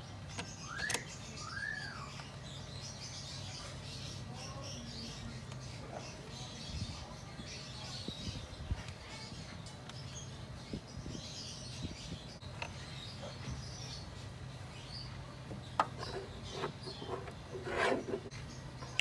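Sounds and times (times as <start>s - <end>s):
faint chirping: 0.0s - 19.0s.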